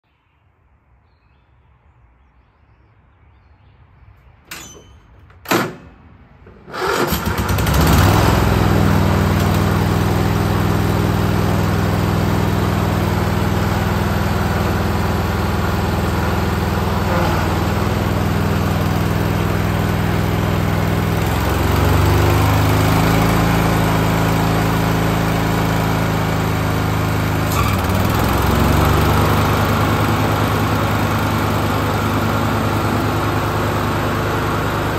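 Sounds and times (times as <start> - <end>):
lawn tractor engine starting: 4.5 - 34.9.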